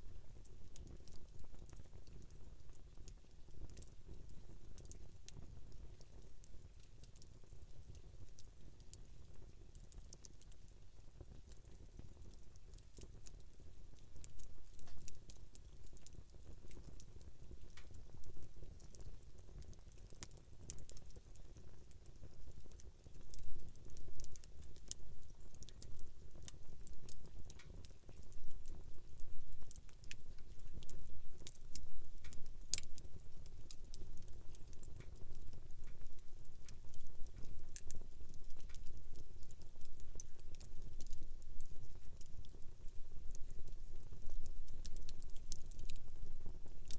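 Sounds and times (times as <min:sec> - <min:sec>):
campfire crackling and popping: 0:00.3 - 0:46.9.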